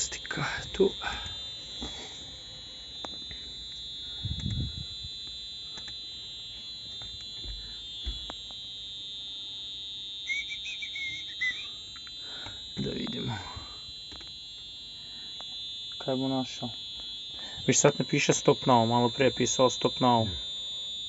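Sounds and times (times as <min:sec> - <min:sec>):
high-pitched electronic alarm tone: 0:00.0 - 0:21.0.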